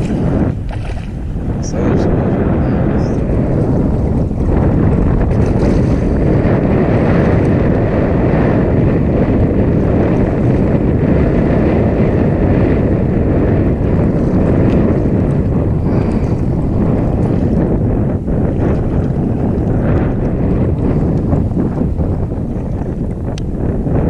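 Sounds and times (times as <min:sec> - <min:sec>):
boat motor and hull rush: 0:00.0 - 0:24.0
wind buffeting microphone: 0:00.0 - 0:24.0.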